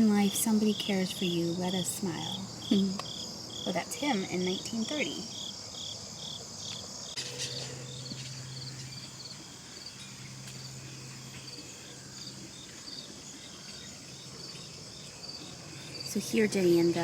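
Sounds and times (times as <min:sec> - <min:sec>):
insects chirping: 0:00.0 - 0:17.0
steady low hum: 0:00.0 - 0:17.0.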